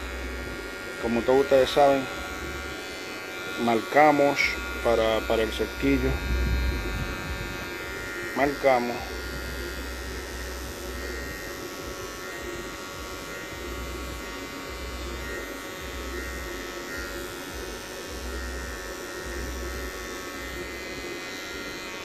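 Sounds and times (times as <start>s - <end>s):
electric hair clipper buzzing: 0.0s - 22.0s.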